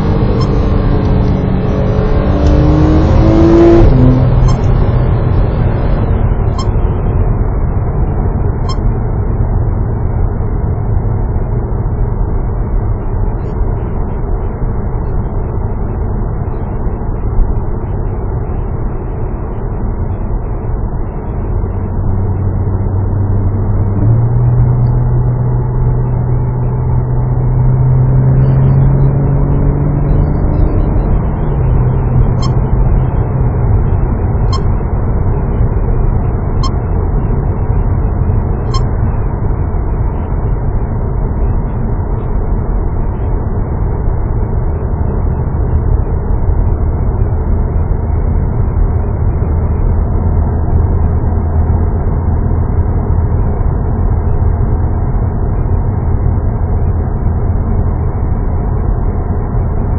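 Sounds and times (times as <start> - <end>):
car engine from inside cabin: 0.0 - 59.9
road noise: 0.0 - 59.9.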